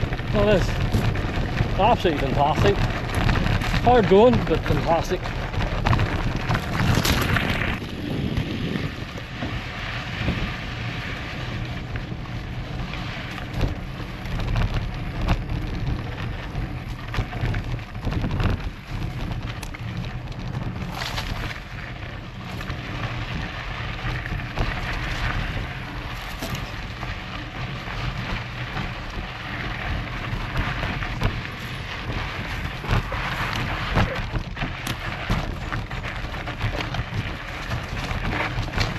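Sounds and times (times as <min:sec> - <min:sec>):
bike rattling: 0:00.0 - 0:38.9
low rumble: 0:00.0 - 0:38.9
tyres crunching over dirt: 0:00.0 - 0:38.9.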